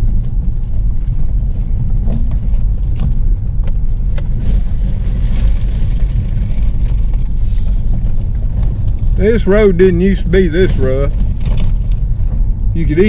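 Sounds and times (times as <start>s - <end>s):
car interior road rumble: 0.0s - 13.0s.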